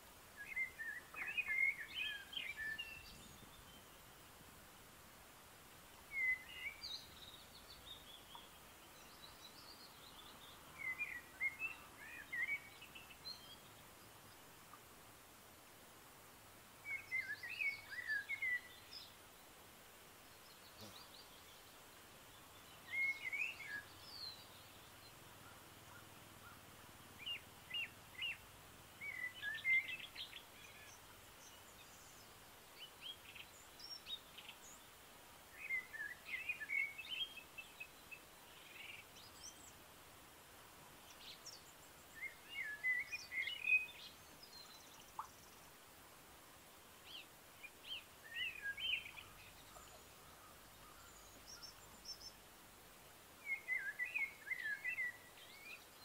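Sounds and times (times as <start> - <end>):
faint outdoor background: 0.0 - 56.0.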